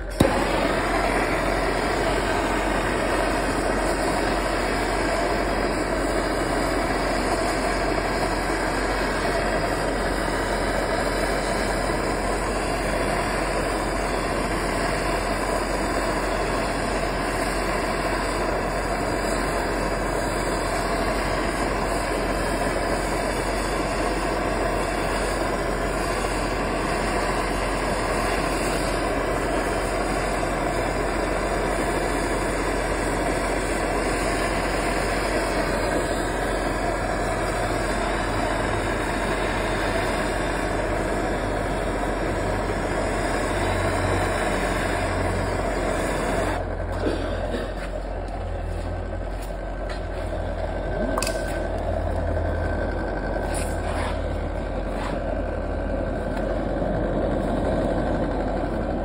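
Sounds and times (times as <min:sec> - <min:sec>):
gas torch hissing: 0:00.0 - 0:59.0.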